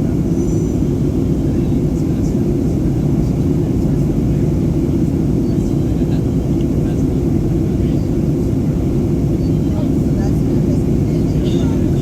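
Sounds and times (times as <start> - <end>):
aircraft cabin roar: 0.0 - 12.0.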